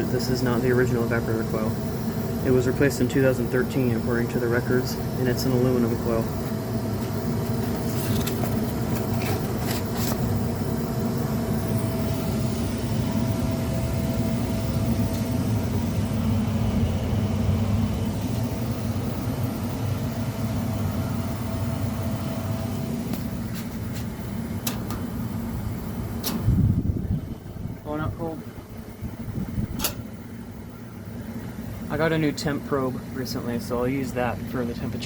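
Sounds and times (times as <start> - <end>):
furnace blower humming: 0.0 - 35.0.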